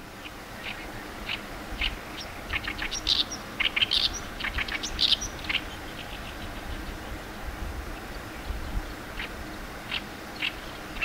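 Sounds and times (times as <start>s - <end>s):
warbler singing: 0.0s - 7.2s, 7.9s - 11.0s.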